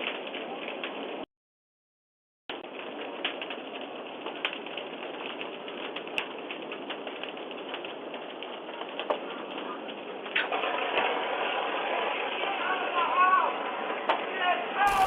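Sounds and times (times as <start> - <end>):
fire crackling and hissing: 0.0 - 1.3, 2.5 - 15.0.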